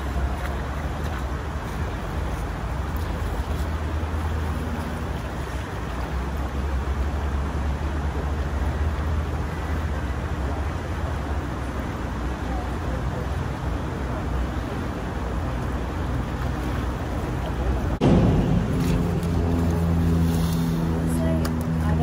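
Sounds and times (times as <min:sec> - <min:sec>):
constant low rumble: 0:00.0 - 0:22.0
creek water running over gravel: 0:00.0 - 0:22.0.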